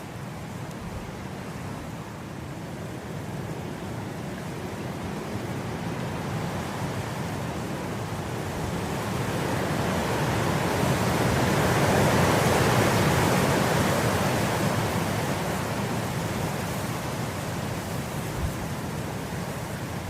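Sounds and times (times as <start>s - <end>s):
wind blowing through grass: 0.0s - 20.0s.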